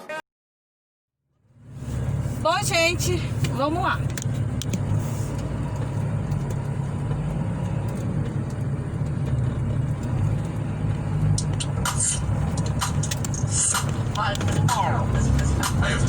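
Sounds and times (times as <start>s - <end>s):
car engine rumble: 1.3s - 16.0s
tyres on the road: 1.3s - 16.0s.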